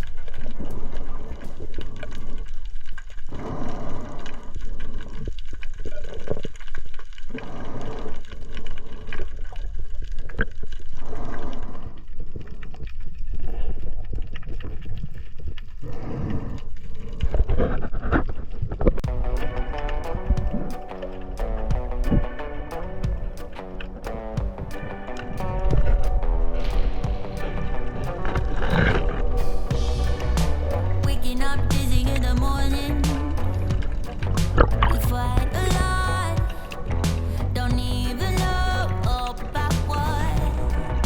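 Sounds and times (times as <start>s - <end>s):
water gurgling and sloshing: 0.0s - 41.0s.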